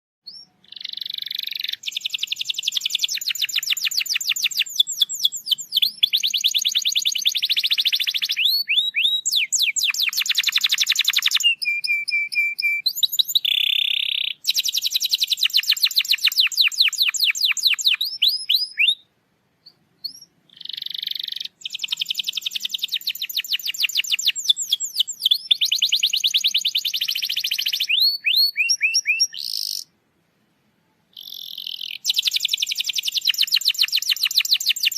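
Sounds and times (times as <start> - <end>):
canary singing: 0.2 - 30.0, 31.1 - 34.9.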